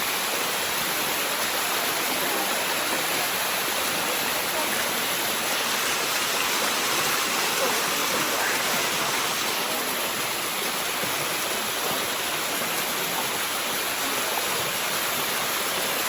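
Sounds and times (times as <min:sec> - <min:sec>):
waterfall rushing over rock: 0:00.0 - 0:16.0.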